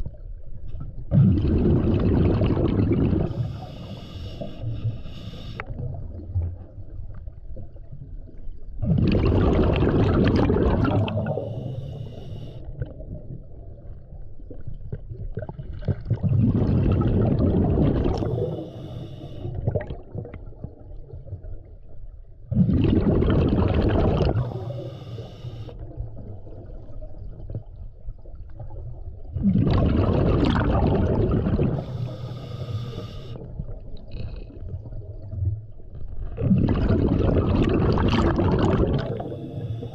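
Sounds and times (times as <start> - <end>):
bubbling exhaled air underwater: 0.0 - 21.7, 22.5 - 39.9.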